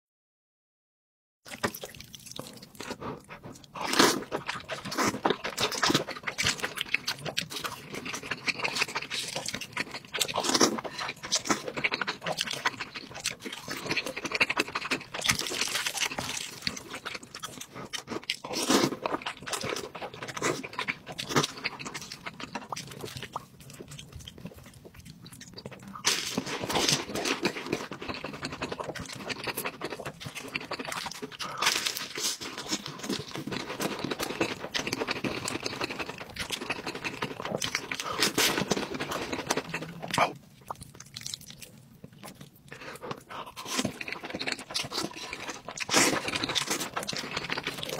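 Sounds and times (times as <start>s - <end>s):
person chewing and crunching food: 1.5s - 47.9s.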